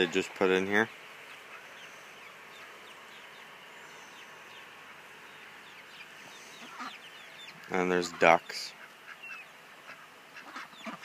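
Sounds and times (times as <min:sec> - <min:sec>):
faint outdoor hiss: 0:00.0 - 0:11.0
young birds peeping: 0:00.0 - 0:11.0.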